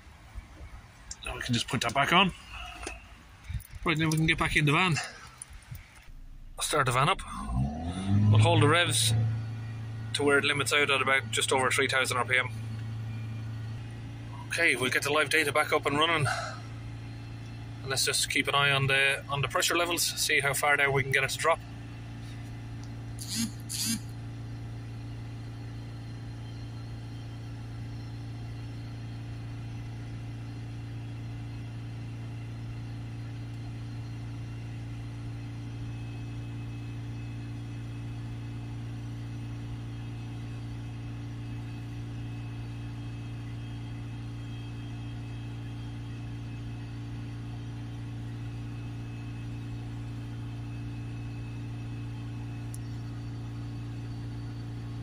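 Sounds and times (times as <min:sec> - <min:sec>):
diesel engine droning at high revs: 0:01.2 - 0:55.0.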